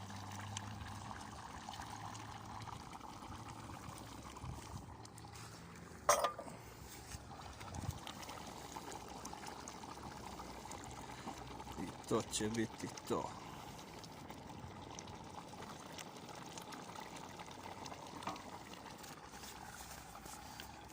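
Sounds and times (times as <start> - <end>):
stew bubbling in a pot: 0.0 - 20.9.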